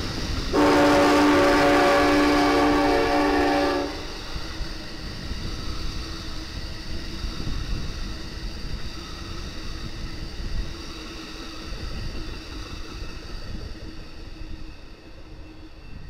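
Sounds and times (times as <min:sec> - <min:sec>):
passing train rushing noise: 0:00.0 - 0:16.0
train wheels rumbling on rail: 0:00.0 - 0:16.0.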